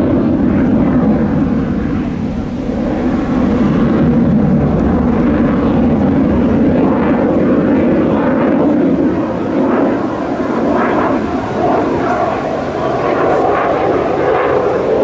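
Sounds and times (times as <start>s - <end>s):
fighter jet rumble: 0.0s - 15.0s.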